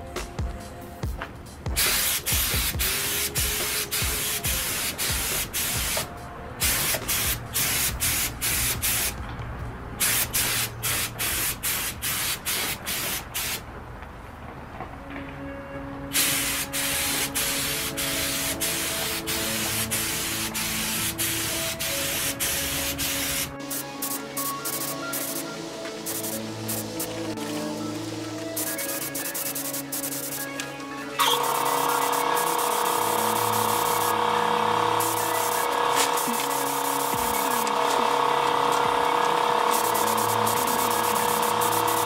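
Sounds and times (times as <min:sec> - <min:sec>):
spray gun hissing: 0:01.8 - 0:09.2, 0:10.0 - 0:13.6, 0:16.1 - 0:30.6, 0:31.2 - 0:42.0.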